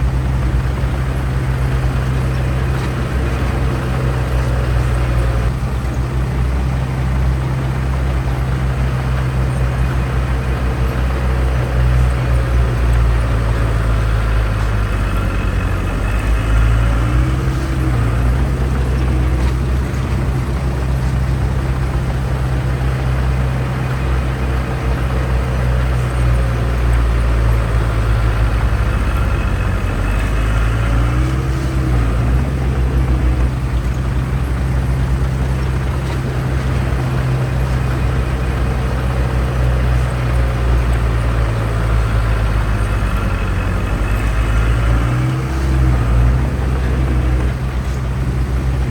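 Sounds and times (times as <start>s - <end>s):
heavy diesel engine under load: 0.0s - 48.9s.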